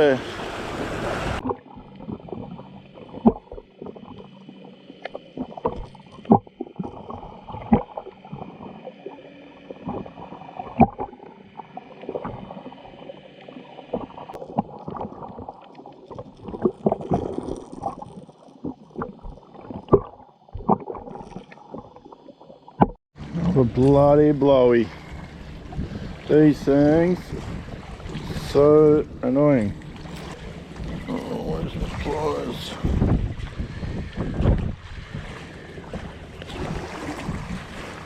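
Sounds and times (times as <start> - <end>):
person wading in shallow water: 0.0 - 38.0.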